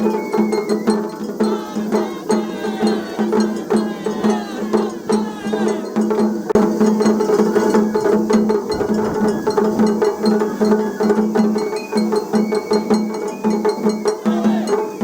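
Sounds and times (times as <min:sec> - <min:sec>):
drums: 0:00.0 - 0:15.0.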